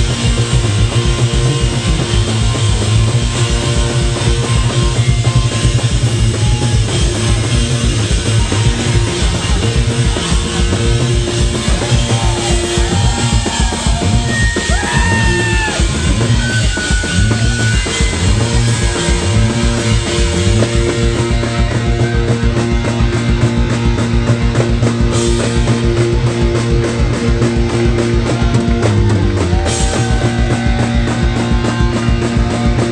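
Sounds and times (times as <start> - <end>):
drum kit beat: 0.0 - 32.9
electric guitars: 0.0 - 32.9.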